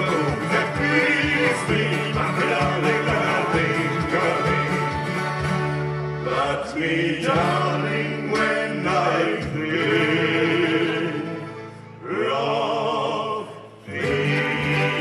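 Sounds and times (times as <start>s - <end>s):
men singing: 0.0s - 5.1s, 6.2s - 15.0s
plucked strings: 0.0s - 11.9s, 13.9s - 15.0s
strummed guitar: 0.0s - 12.1s, 13.8s - 15.0s
folk band playing: 0.0s - 12.6s, 13.9s - 15.0s.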